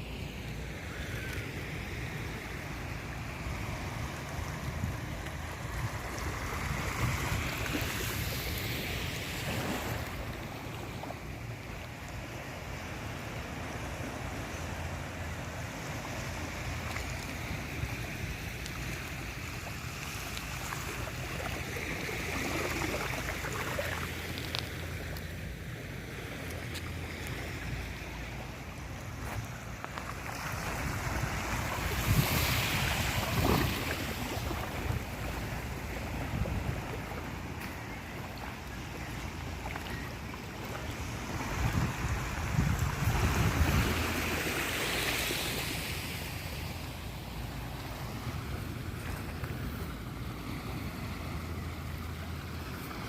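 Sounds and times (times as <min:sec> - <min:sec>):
ocean waves breaking: 0:00.0 - 0:53.0
wind rumbling on microphone: 0:00.7 - 0:12.7, 0:14.8 - 0:53.0.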